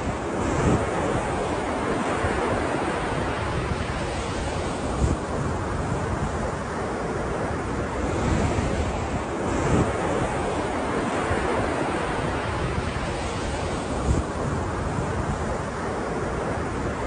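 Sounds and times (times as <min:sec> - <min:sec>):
breaking ocean waves: 0:00.0 - 0:17.0.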